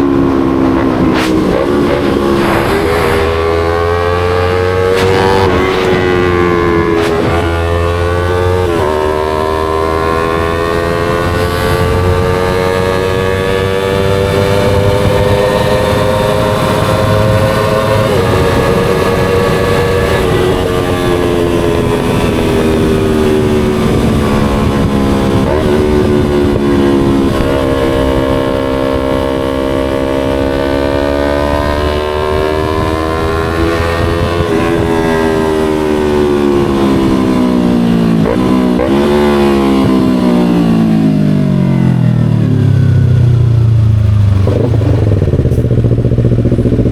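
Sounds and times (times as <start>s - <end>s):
motorcycle engine while riding: 0.0s - 46.9s.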